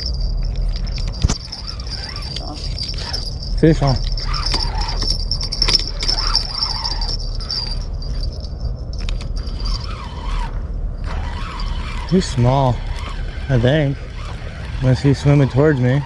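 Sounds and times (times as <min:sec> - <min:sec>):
fishing reel cranking: 0:00.0 - 0:16.0
steady low rumble: 0:00.0 - 0:16.0.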